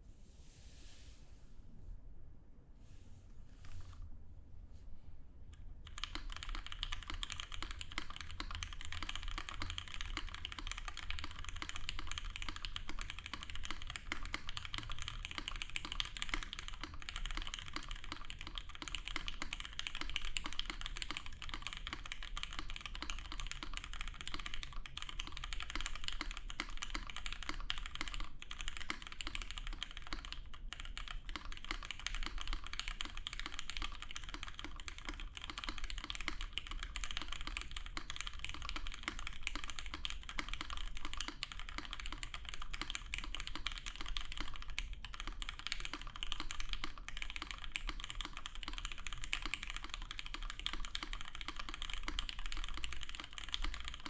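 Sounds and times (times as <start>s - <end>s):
mechanical keyboard typing: 5.6s - 54.0s.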